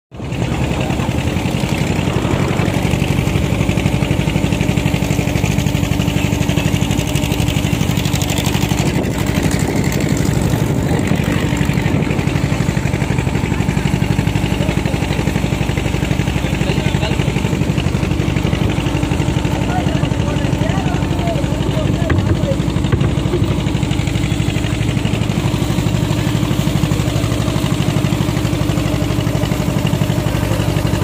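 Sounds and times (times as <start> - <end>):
boat engine throbbing: 0.1 - 31.0.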